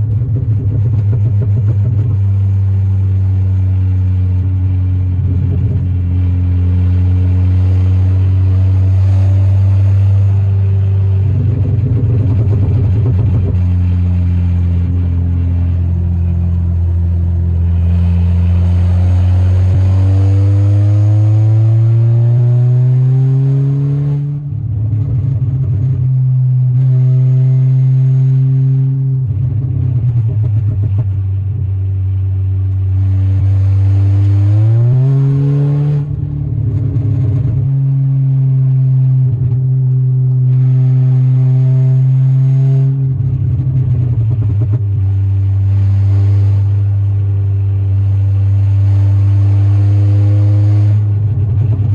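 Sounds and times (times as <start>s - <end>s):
exhaust popping: 0.0s - 23.1s, 28.9s - 35.0s, 35.8s - 41.0s, 42.4s - 51.9s
car engine revving through gears: 5.1s - 26.0s, 26.6s - 31.2s, 32.6s - 47.2s, 47.9s - 51.9s.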